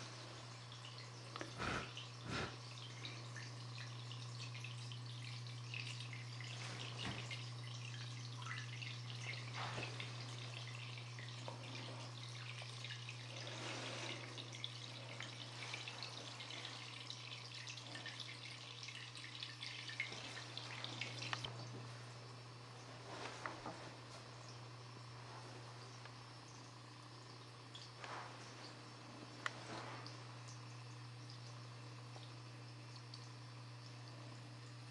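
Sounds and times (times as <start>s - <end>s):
steady low hum: 0.0s - 34.9s
water trickling and dripping: 0.0s - 34.9s.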